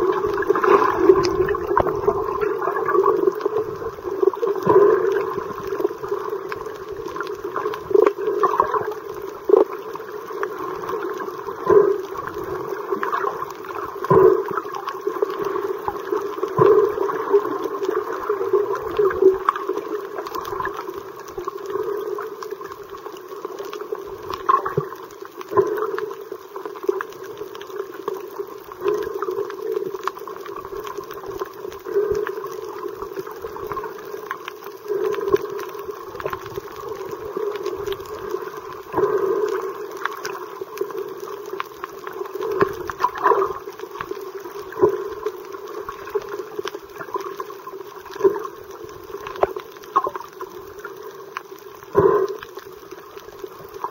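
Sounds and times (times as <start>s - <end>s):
underwater rush of water: 0.0s - 53.9s.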